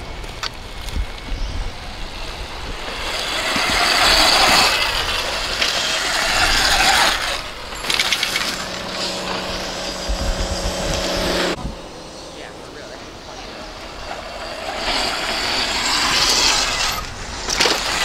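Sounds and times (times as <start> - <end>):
tyre noise on loose dirt: 0.0 - 11.9, 13.6 - 18.0
low motor hum: 0.0 - 18.0.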